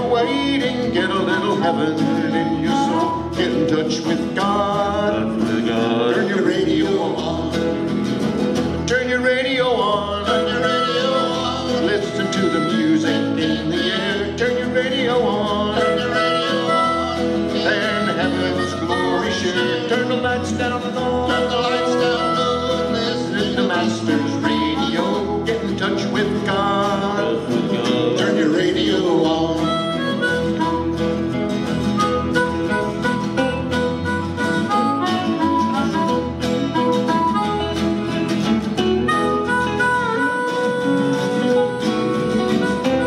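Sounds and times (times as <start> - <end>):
harmonica playing lead: 0.0 - 8.0, 9.6 - 43.0
mandolin: 0.0 - 43.0
strummed acoustic guitars: 0.0 - 43.0.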